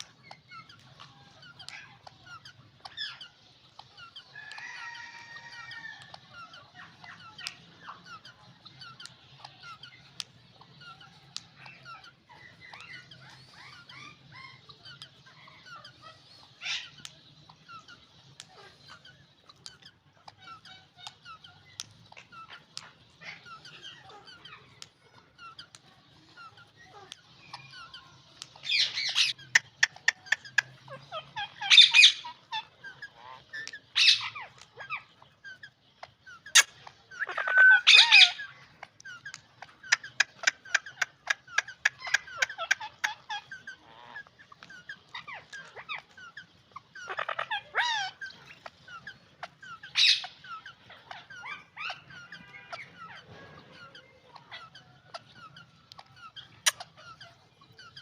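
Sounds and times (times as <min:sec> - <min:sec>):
parakeet clicking chatter: 0:00.0 - 0:58.0
parakeet soft twittering: 0:00.0 - 0:58.0
parakeets squawking: 0:00.0 - 0:58.0.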